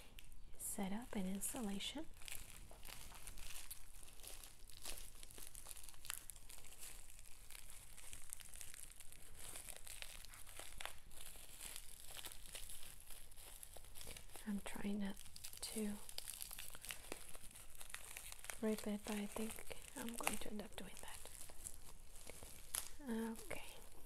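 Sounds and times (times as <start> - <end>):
plastic bag crinkling: 0.0 - 24.0.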